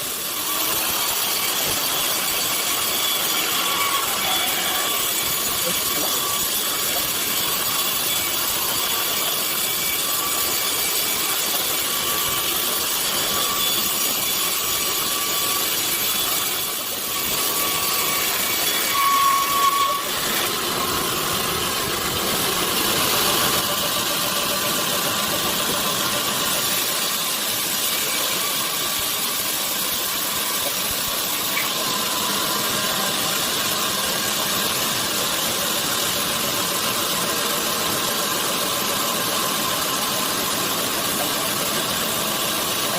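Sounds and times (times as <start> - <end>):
sawmill machinery hissing: 0.0 - 42.9.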